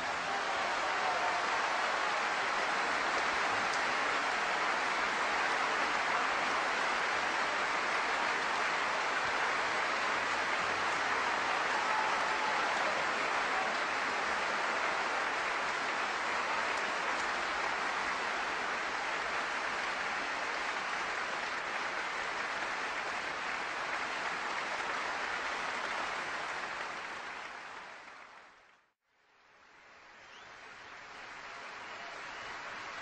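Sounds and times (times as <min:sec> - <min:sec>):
applause: 0:00.0 - 0:33.0.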